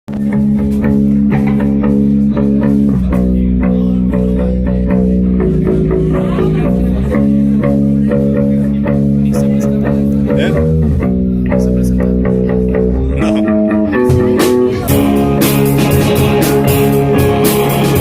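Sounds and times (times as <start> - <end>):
electric guitar chords: 0.1 - 18.0
loud bass guitar: 0.1 - 18.0.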